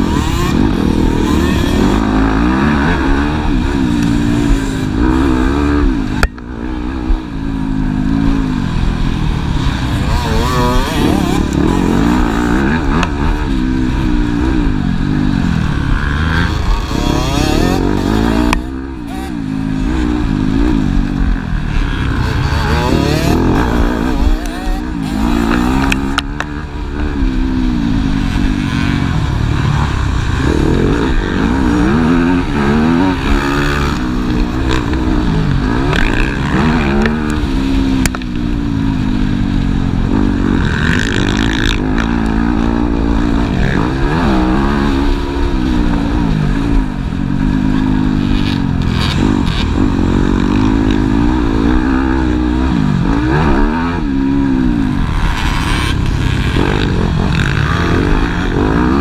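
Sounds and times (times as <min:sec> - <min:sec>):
motocross bike engines revving: 0:00.0 - 0:59.0.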